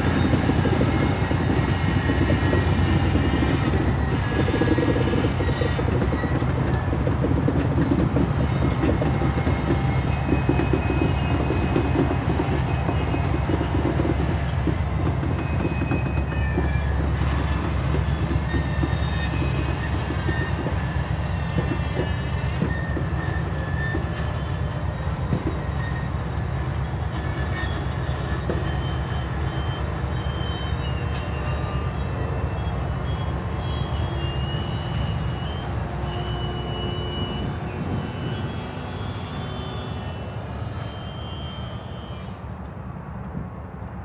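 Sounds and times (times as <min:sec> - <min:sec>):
high wheel squeals: 0:00.0 - 0:42.7
train wheels rumbling on rail: 0:00.0 - 0:44.0.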